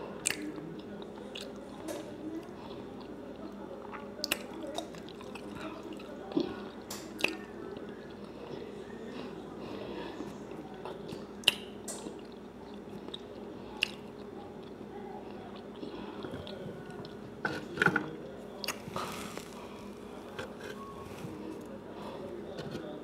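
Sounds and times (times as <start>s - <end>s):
faint steady hum: 0.0s - 23.0s
person chewing food: 2.4s - 17.8s, 18.6s - 21.7s.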